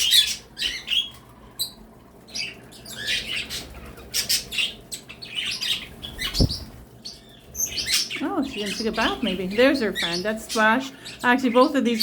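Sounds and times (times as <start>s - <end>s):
small birds chirping and squawking: 0.0s - 12.0s.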